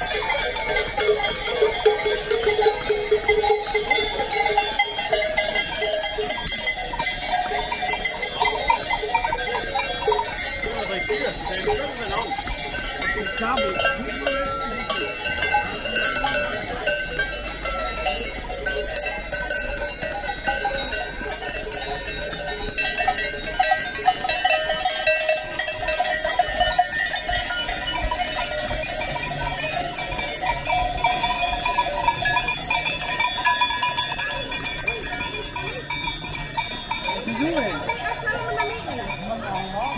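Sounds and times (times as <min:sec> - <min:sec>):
cowbells clanking: 0:00.0 - 0:39.9.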